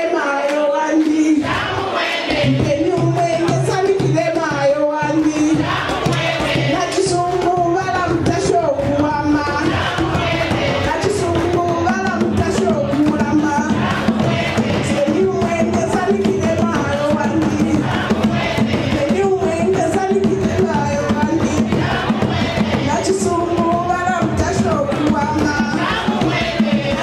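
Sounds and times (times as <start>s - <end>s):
women singing together: 0.0s - 27.0s
hand drum beats: 0.9s - 27.0s.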